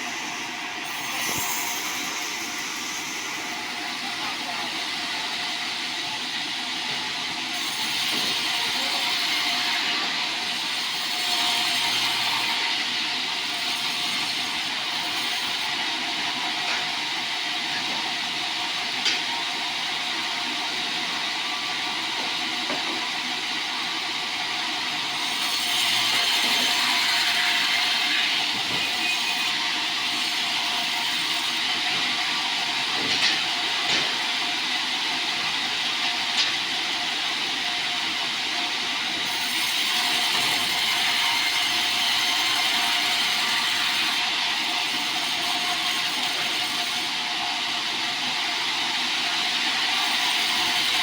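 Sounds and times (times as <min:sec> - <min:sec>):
band saw cutting through log: 0:00.0 - 0:51.0.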